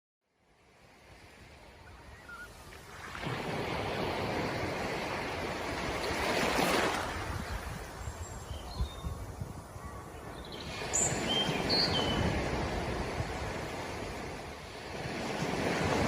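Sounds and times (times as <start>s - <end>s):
sea surf washing in: 0.7s - 16.0s.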